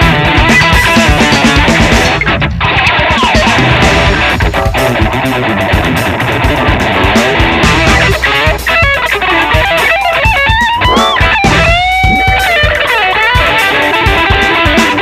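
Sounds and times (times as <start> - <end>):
electric guitar with pitch slides: 0.0 - 15.0.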